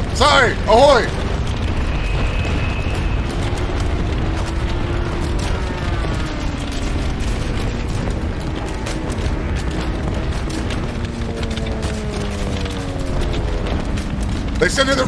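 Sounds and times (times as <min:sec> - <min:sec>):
low rumble: 0:00.0 - 0:14.6
wooden ship creaking: 0:00.0 - 0:15.0.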